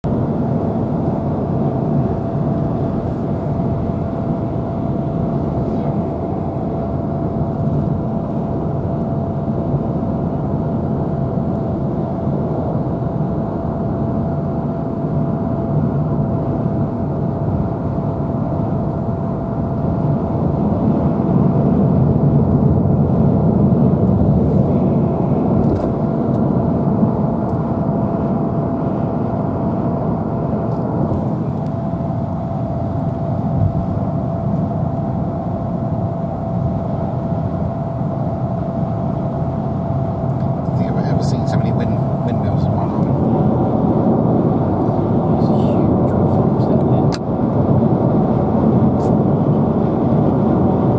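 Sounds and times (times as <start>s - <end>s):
thin steady whine: 0.1s - 50.9s.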